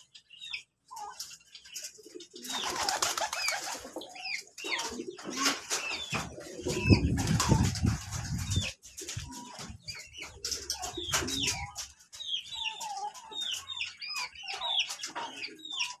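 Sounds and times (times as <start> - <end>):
birds clucking and chirping: 0.0 - 16.0.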